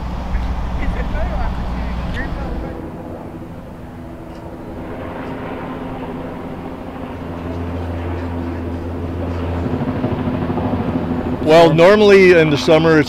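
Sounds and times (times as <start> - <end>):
engine humming: 0.0 - 12.8
deeper drone: 0.0 - 13.0.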